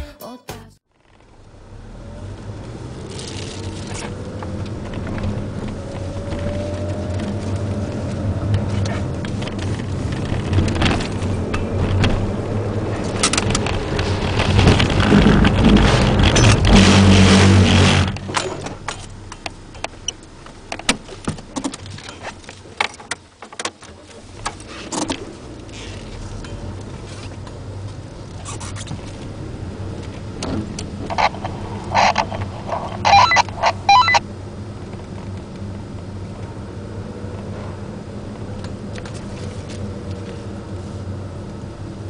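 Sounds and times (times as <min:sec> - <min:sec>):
car engine under throttle: 0:01.0 - 0:23.4, 0:24.0 - 0:42.0.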